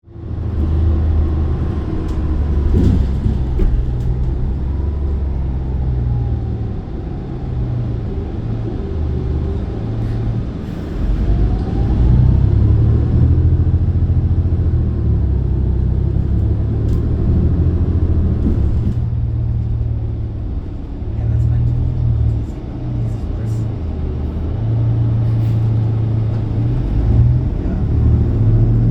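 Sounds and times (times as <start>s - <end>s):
bus engine and road rumble: 0.0s - 28.9s
drivetrain whine: 0.0s - 28.9s.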